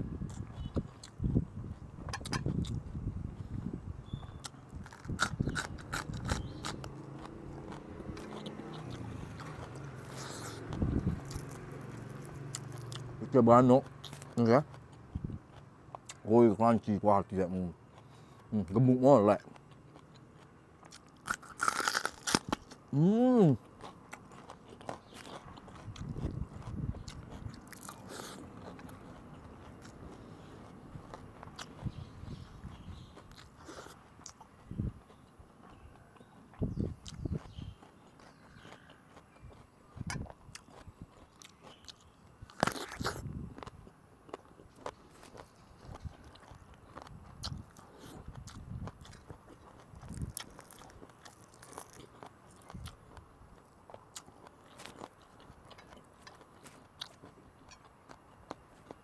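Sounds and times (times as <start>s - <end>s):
crunching and chewing vegetables: 0.1s - 59.0s.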